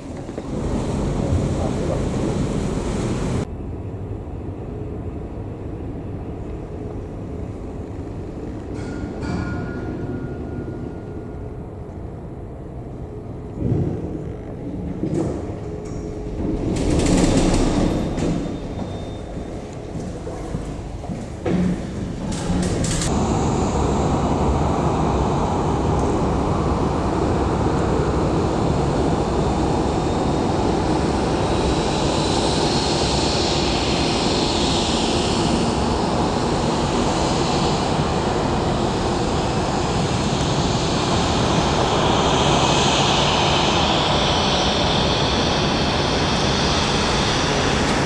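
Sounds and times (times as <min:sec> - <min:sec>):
jet engines roaring: 0:00.0 - 0:09.2, 0:09.9 - 0:48.0.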